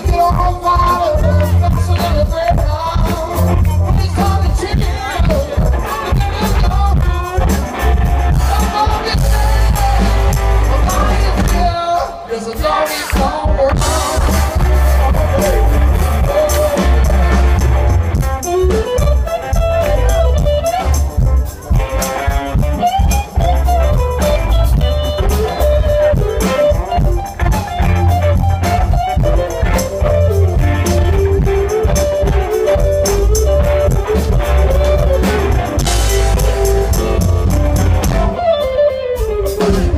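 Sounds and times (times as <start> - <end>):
live rock band playing: 0.0 - 39.9
man singing lead: 0.0 - 39.9.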